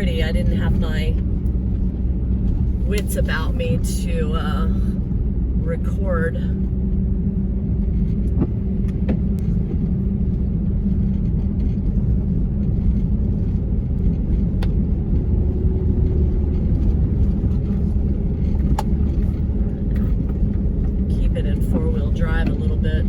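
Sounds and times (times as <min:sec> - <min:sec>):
vehicle engine and road rumble: 0:00.0 - 0:23.0.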